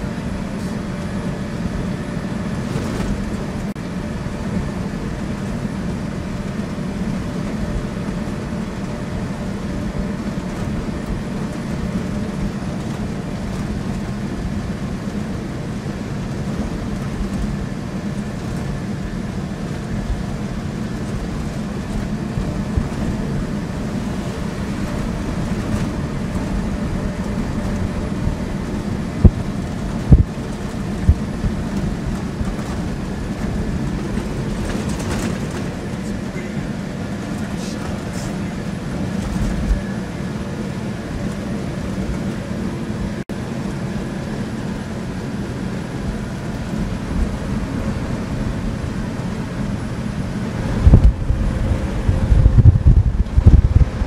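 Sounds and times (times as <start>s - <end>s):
engine and road noise in a cab: 0.0s - 54.0s.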